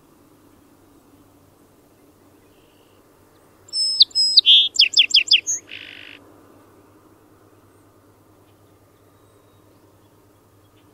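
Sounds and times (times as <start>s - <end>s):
songbird singing: 0.0s - 10.9s.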